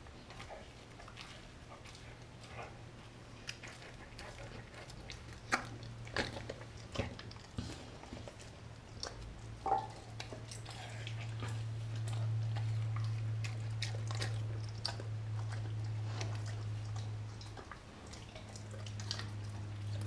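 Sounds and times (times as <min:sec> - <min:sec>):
dog chewing raw meat: 0:00.0 - 0:20.0
steady low hum: 0:00.0 - 0:20.0.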